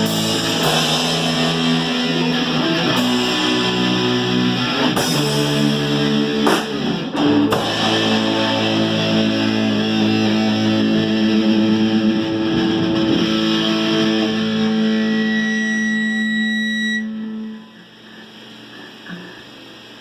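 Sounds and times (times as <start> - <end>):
distorted electric guitar chord: 0.0 - 19.4.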